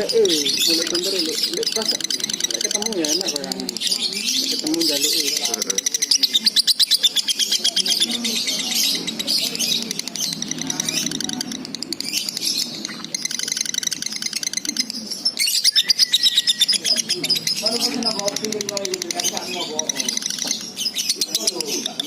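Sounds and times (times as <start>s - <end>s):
bird chattering trill: 0.0s - 22.0s.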